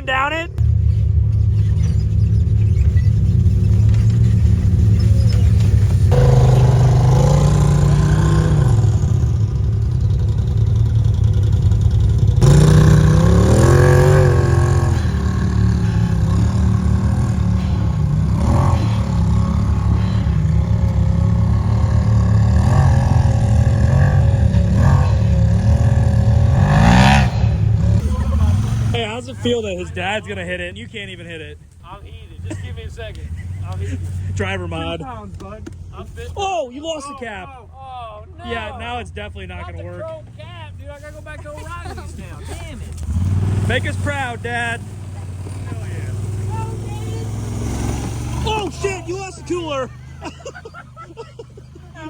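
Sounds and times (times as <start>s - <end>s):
engine revving under load: 0.0s - 35.2s, 41.1s - 52.0s.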